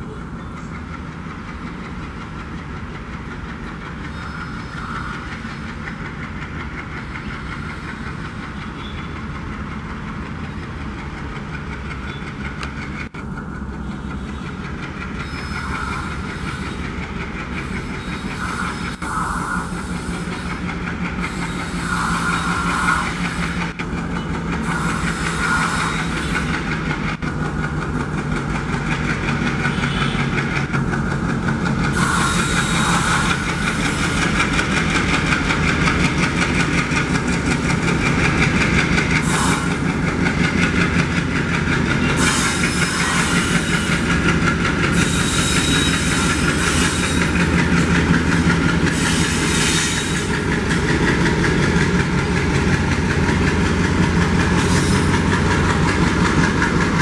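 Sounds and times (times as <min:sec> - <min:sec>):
diesel locomotive engine chugging: 0:00.0 - 0:57.0
train wheels clacking over rail joints: 0:00.4 - 0:57.0.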